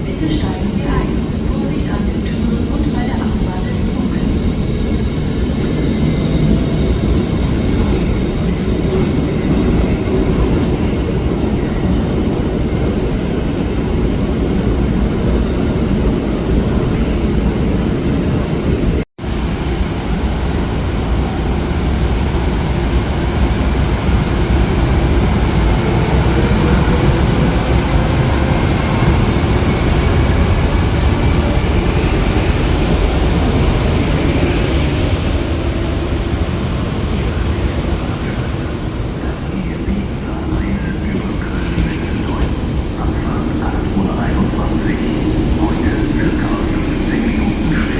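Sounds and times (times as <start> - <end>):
train rumbling: 0.0 - 47.9.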